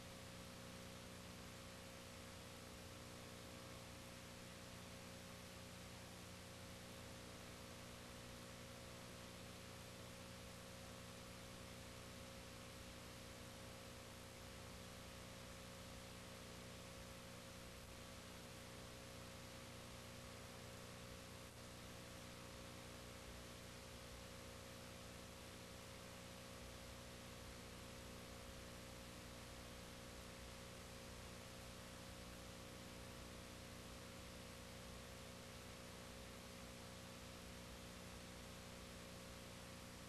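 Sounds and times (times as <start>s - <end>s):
faint hum with hiss: 0.0s - 40.0s.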